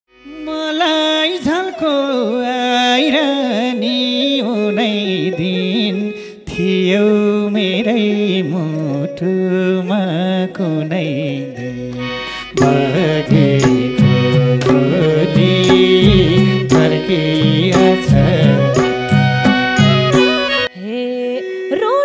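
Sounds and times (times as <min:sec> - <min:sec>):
folk music melody: 0:00.1 - 0:20.9.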